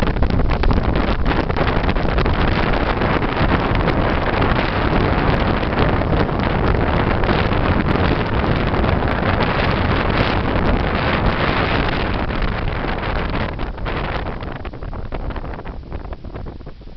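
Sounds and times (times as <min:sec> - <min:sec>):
waves breaking on beach: 0:00.0 - 0:16.9
wind rumble on microphone: 0:00.0 - 0:16.9.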